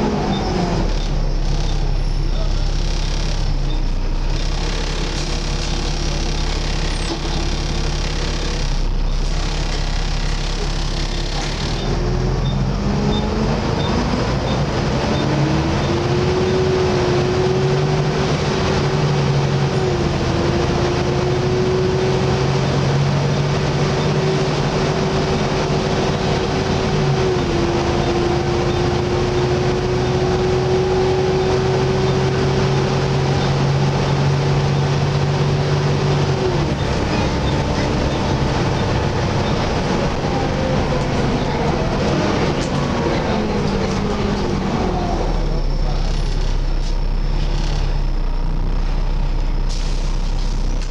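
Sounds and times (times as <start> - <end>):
bus engine whining: 0.0 - 50.9.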